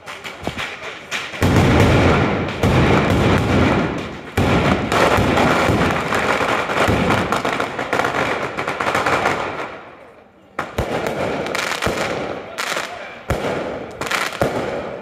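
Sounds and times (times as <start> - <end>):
firecrackers exploding rapidly: 0.0 - 9.8, 10.6 - 15.0.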